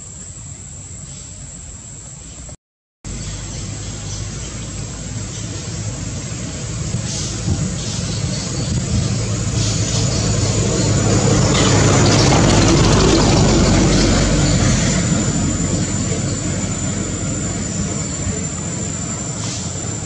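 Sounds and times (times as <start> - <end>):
aircraft engine rumble: 0.0 - 20.0.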